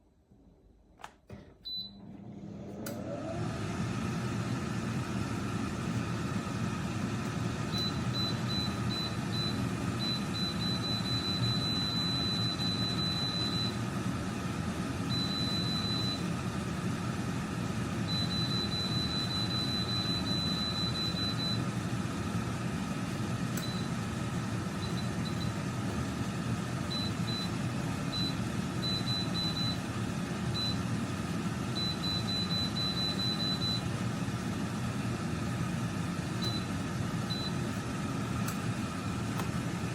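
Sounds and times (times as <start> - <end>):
air fryer fan whirring: 1.0 - 39.9
air fryer beep: 1.6 - 2.3, 2.9 - 21.9, 23.4 - 34.0, 36.0 - 37.8.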